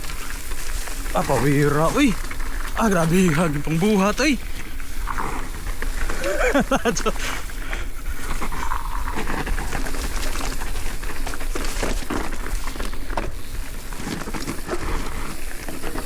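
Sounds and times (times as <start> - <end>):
constant hiss: 0.0 - 16.0.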